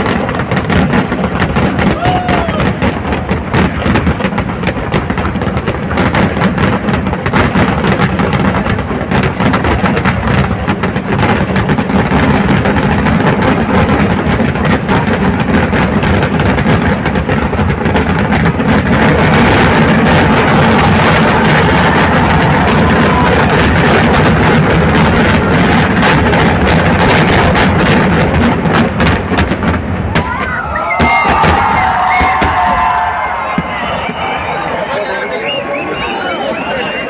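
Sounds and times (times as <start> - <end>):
firecracker barrage: 0.0 - 37.0.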